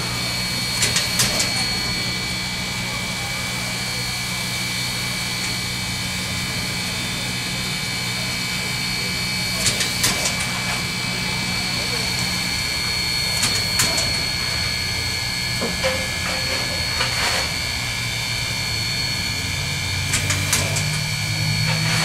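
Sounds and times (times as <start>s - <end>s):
steady high whine: 0.0s - 22.0s.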